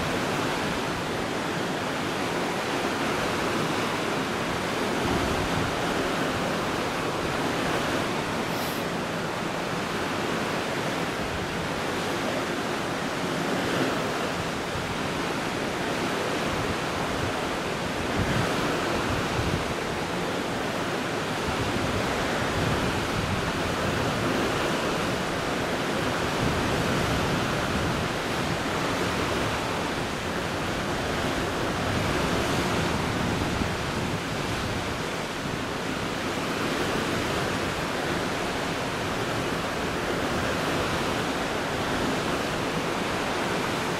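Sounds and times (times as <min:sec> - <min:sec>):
sea water rushing: 0:00.0 - 0:43.9
wind: 0:00.0 - 0:43.9.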